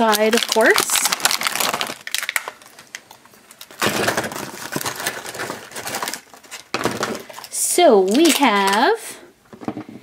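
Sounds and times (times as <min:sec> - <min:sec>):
plastic packaging crackling: 0:00.0 - 0:09.0.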